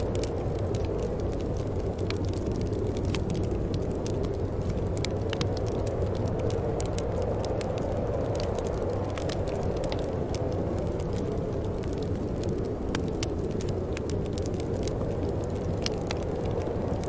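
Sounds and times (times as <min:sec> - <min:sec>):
low wind rumble: 0:00.0 - 0:17.0
wood fire crackling: 0:00.0 - 0:17.0.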